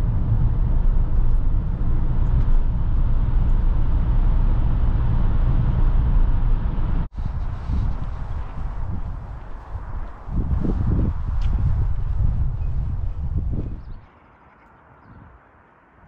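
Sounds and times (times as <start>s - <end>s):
car engine and tyre rumble: 0.0s - 14.1s
outdoor sound: 0.0s - 16.0s.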